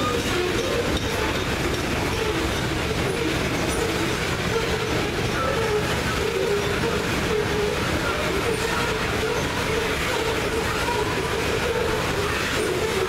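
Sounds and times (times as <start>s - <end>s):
metallic wheel squeal: 0.0s - 13.0s
steel wheels rumbling on rails: 0.0s - 13.0s.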